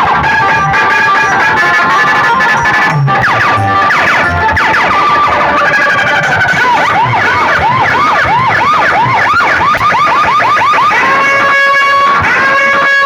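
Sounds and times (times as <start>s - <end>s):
electronic siren effect: 0.0s - 13.0s.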